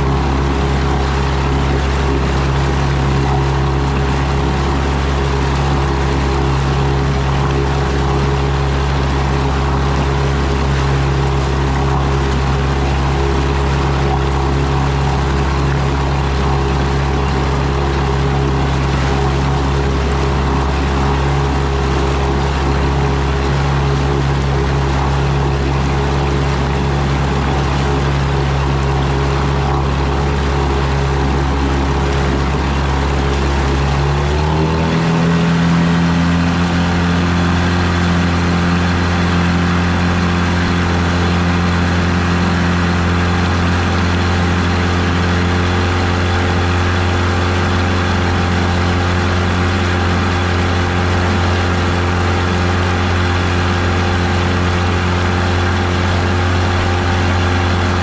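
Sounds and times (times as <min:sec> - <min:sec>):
outboard motor running: 0:00.0 - 0:58.0
wake rushing: 0:00.0 - 0:58.0.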